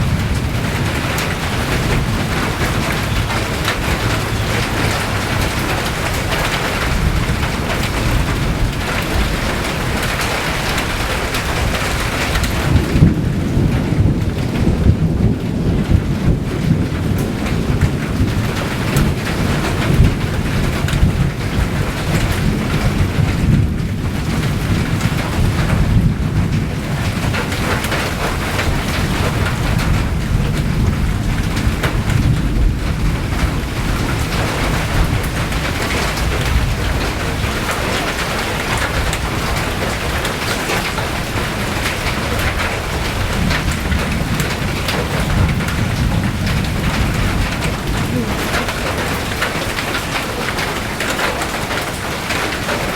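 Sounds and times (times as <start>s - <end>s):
rain pattering on surfaces: 0.0s - 52.9s.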